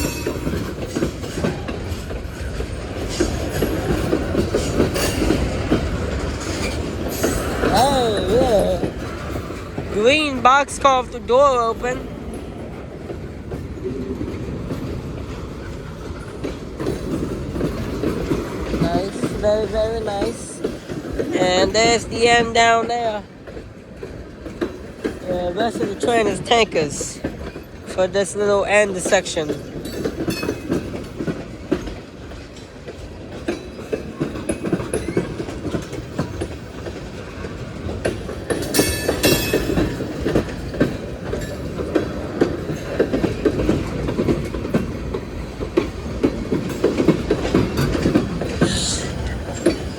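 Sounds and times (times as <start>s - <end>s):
freight cars rolling on rails: 0.0s - 49.9s
train low rumble: 0.0s - 49.9s.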